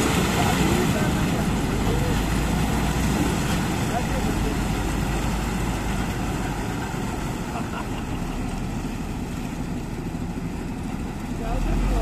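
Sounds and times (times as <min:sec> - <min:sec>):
harvester engine and machinery: 0:00.0 - 0:12.0.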